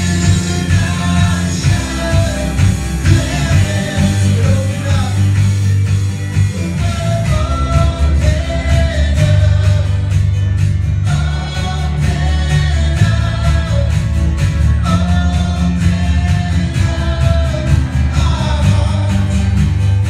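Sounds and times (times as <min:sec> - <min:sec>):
people singing: 0:00.0 - 0:05.4, 0:06.3 - 0:10.4, 0:11.0 - 0:19.7
electric guitar: 0:00.0 - 0:20.0
steady drum beat: 0:00.0 - 0:20.0
strong bass: 0:00.0 - 0:20.0.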